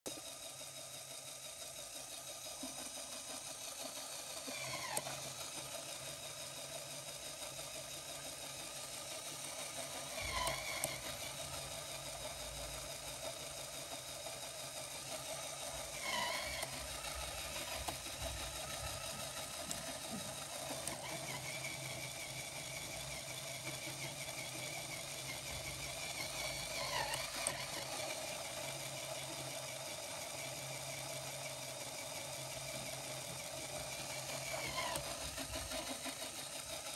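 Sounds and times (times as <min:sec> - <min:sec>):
toy electric motor whirring gears: 0:00.1 - 0:36.9.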